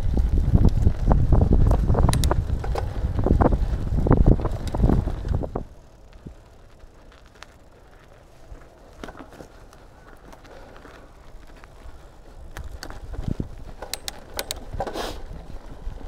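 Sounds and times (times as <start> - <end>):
wind rumbling on microphone: 0.0 - 7.6, 10.4 - 16.0
bike rattling over bumps: 0.0 - 16.0.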